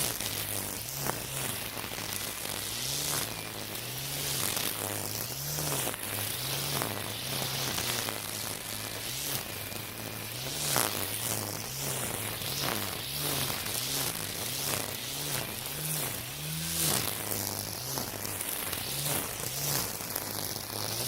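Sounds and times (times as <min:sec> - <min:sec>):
string trimmer motor hum: 0:00.0 - 0:21.0
trimmer line tearing through grass: 0:00.0 - 0:21.0.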